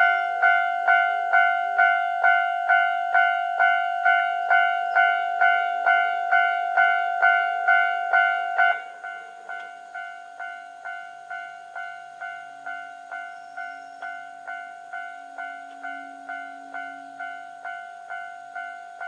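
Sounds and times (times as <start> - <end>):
level-crossing warning bell ringing: 0.0 - 19.0.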